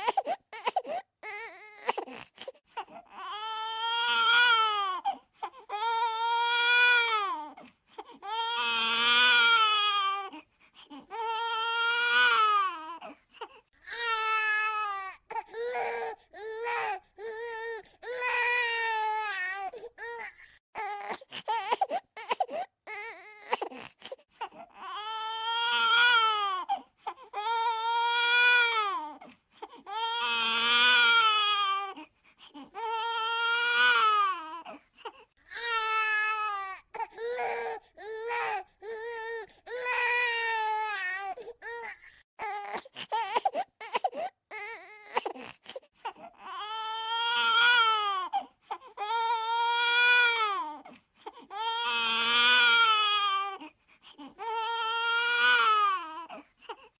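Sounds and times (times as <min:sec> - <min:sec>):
baby gasping and sobbing: 0:00.0 - 0:56.9
baby crying: 0:02.8 - 0:32.0, 0:32.6 - 0:34.8, 0:35.5 - 0:56.9.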